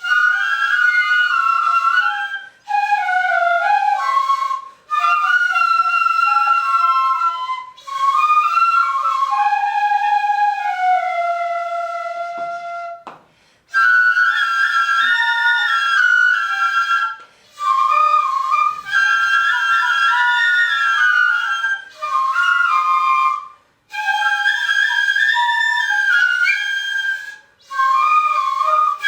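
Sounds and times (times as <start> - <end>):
bamboo flutes playing melody: 0.0 - 29.0.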